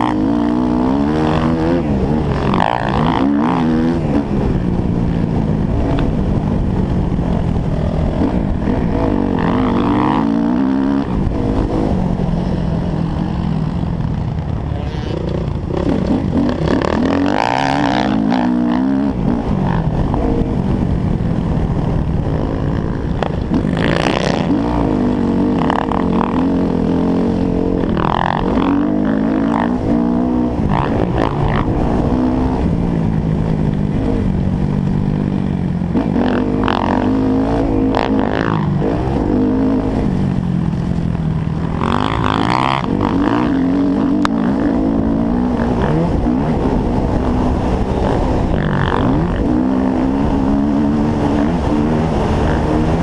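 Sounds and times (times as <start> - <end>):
motocross bike engine revving: 0.0 - 34.2, 34.8 - 53.0
constant low rumble: 0.0 - 53.0.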